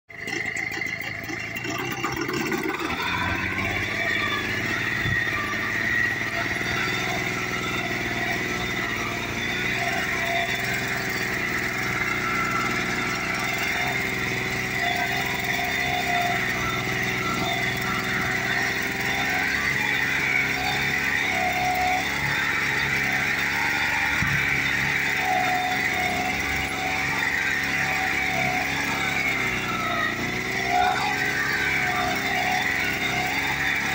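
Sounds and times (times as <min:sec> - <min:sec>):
tractor engine under load: 0:00.1 - 0:33.9.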